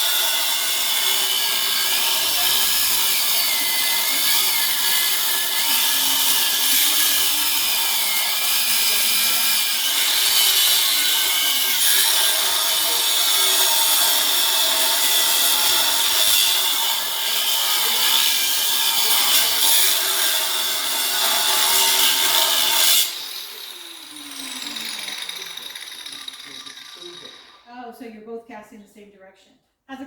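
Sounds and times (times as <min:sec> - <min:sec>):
power grinder cutting metal: 0:00.0 - 0:27.7.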